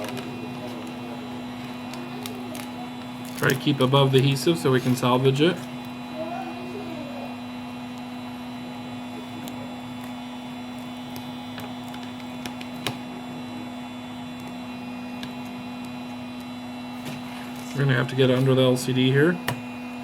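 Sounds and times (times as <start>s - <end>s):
electrical hum of small motor: 0.0s - 20.0s.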